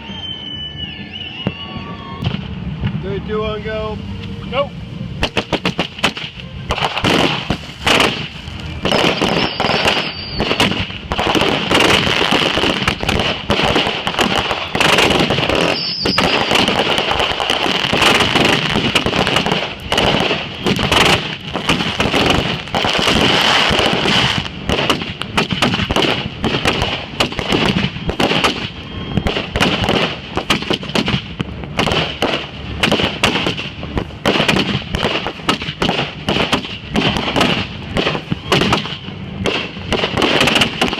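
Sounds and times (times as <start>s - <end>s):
firework whistles: 0.0s - 2.8s, 5.2s - 40.9s
fireworks bangs and crackling: 0.0s - 40.9s.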